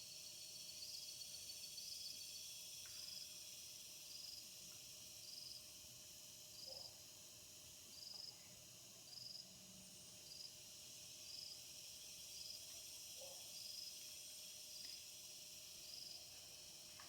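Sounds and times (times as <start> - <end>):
cricket chirping: 0.0 - 17.0
faint high insect hiss: 0.0 - 17.0
faint lower insect call: 0.0 - 17.0.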